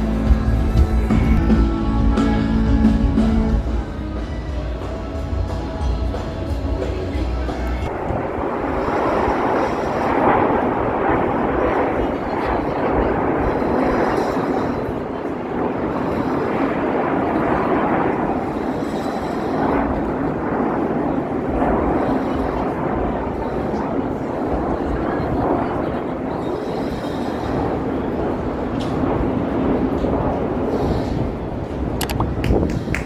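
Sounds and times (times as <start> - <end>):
jet aircraft roaring overhead: 0.0 - 33.0.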